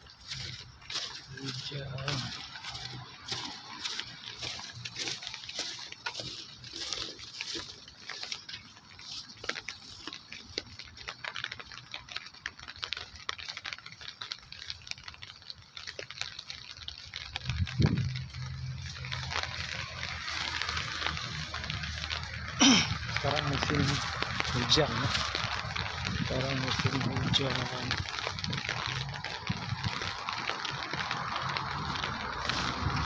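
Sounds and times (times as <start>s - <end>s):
drops ticking nearby: 0.0s - 33.0s
rain falling: 0.0s - 33.0s.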